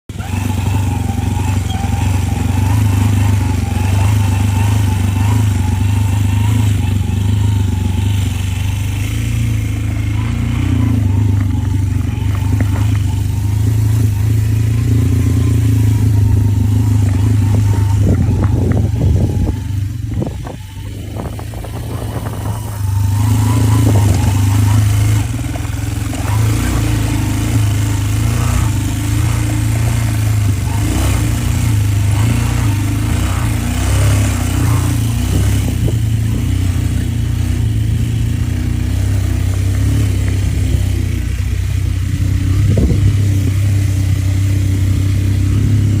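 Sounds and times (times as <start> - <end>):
engine running with low hum: 0.1 - 46.0.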